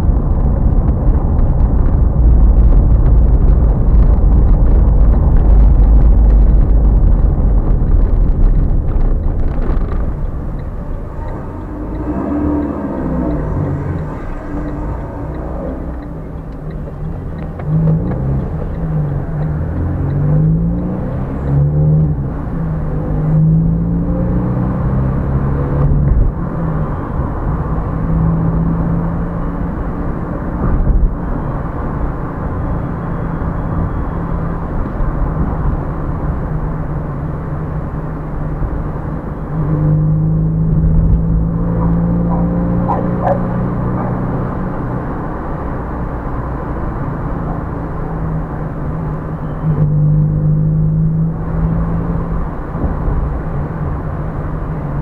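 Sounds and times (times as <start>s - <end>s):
car engine accelerating: 0.0s - 55.0s
road rumble: 0.0s - 55.0s.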